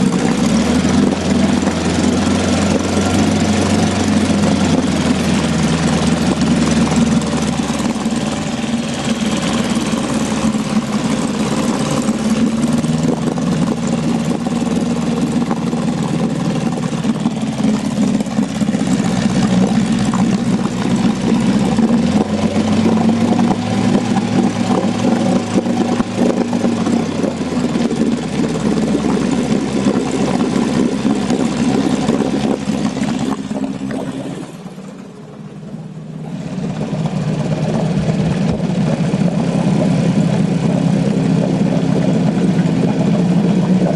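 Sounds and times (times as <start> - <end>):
boat motor running: 0.0 - 43.9.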